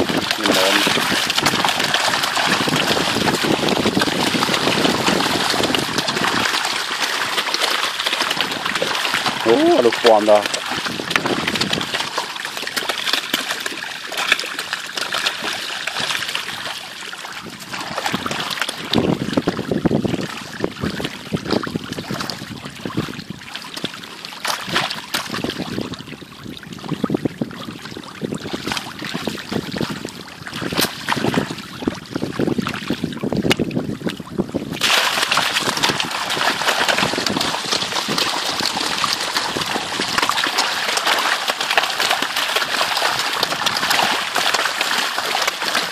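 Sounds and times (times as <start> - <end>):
fish slapping the water: 0.0 - 45.9
water splashing and churning: 0.0 - 45.9.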